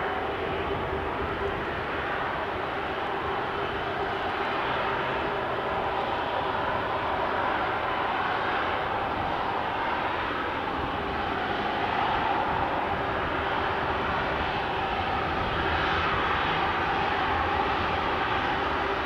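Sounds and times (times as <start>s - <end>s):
jet engines whining while taxiing: 0.0s - 19.0s.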